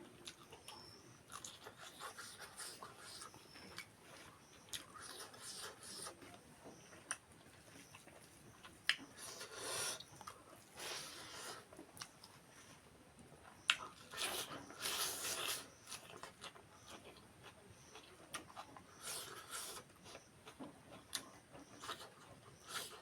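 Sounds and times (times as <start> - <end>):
chewing and mouth noises: 0.0 - 12.4, 13.4 - 23.0.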